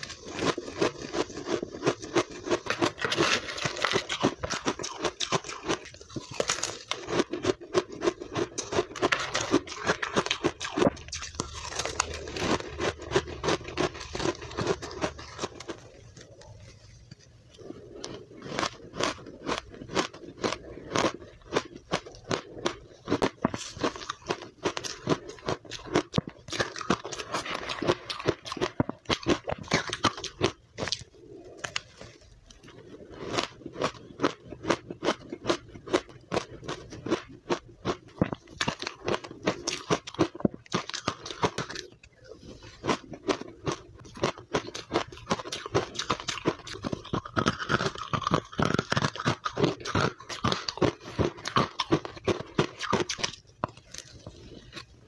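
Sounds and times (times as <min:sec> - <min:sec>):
crunching and chewing ice: 0:00.0 - 0:55.0.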